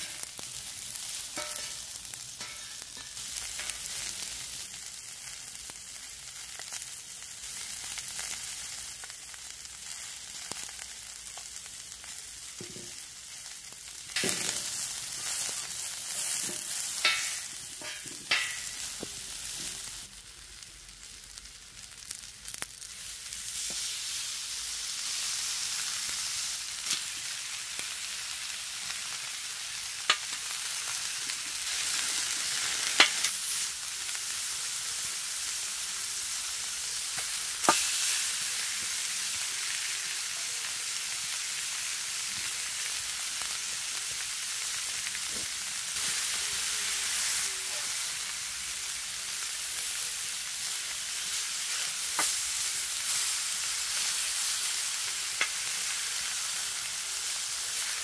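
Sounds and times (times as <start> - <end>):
meat sizzling on griddle: 0.0 - 58.0.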